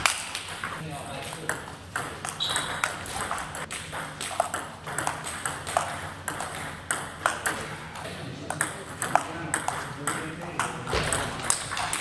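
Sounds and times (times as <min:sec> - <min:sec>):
table tennis ball clicking: 0:01.5 - 0:07.6, 0:08.5 - 0:12.0.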